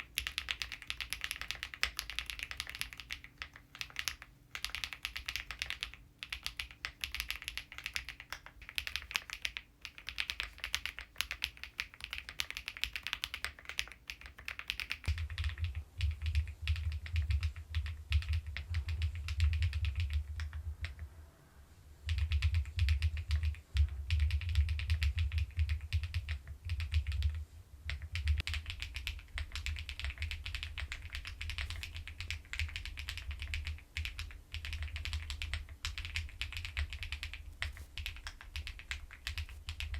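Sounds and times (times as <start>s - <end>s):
mechanical keyboard typing: 0.0s - 21.1s, 22.1s - 39.9s.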